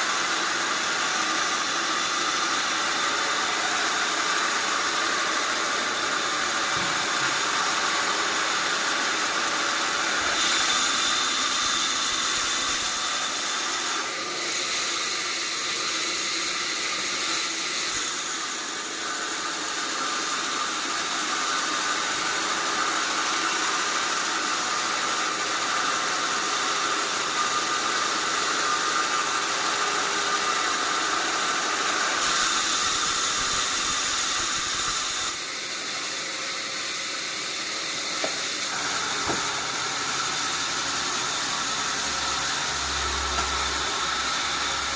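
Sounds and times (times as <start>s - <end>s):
sawmill saw hissing: 0.0s - 44.9s.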